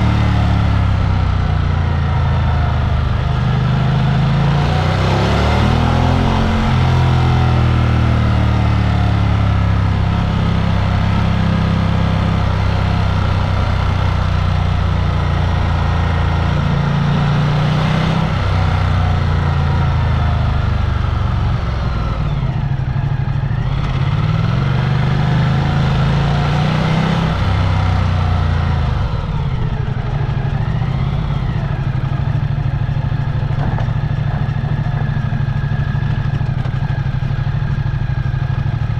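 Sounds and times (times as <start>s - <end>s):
vehicle engine revving: 0.0s - 38.9s
wind and road noise: 0.0s - 38.9s.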